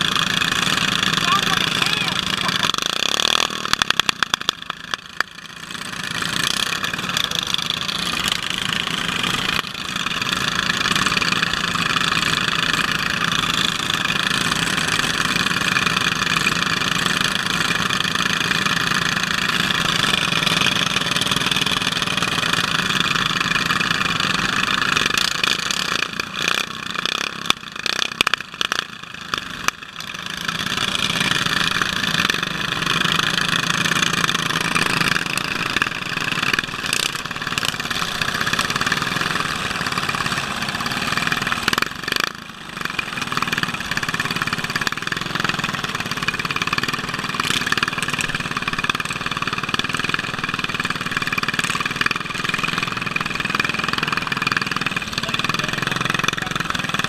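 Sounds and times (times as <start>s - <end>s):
lawn mower engines idling: 0.0s - 57.0s.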